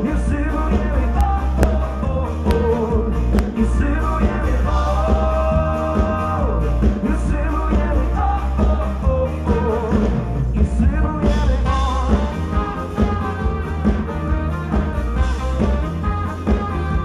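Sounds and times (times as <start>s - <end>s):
person singing: 0.0s - 14.1s
folk rock band playing: 0.0s - 17.0s.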